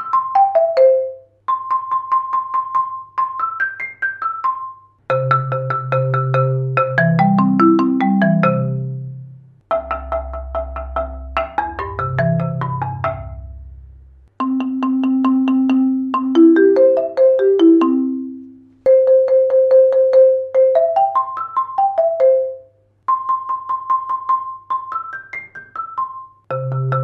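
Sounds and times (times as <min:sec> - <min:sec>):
marimba rolls: 0:00.0 - 0:27.0.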